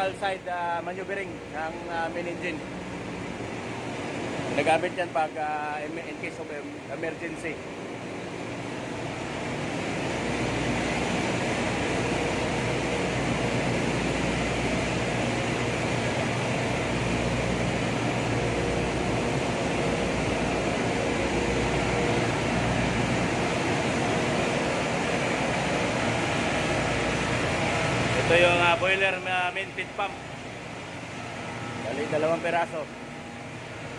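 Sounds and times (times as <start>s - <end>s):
fan rush: 0.0s - 33.9s
machinery hum: 0.0s - 33.9s
steady machine tones: 0.0s - 33.9s.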